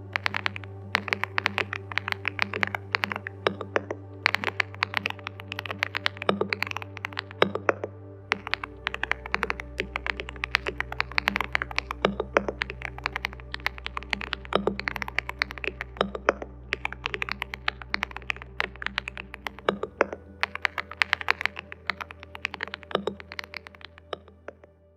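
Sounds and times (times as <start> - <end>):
soft background music: 0.0 - 24.9.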